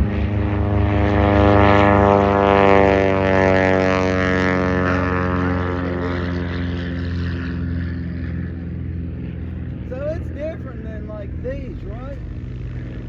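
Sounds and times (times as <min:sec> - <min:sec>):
propeller airplane engine droning: 0:00.0 - 0:13.0.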